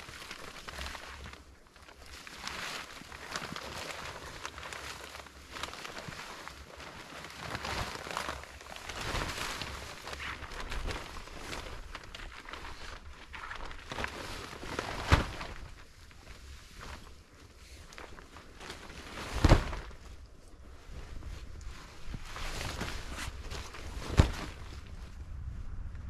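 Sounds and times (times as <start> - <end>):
tent fabric rustling and flapping: 0.0 - 26.0
footsteps in snow: 2.2 - 25.2.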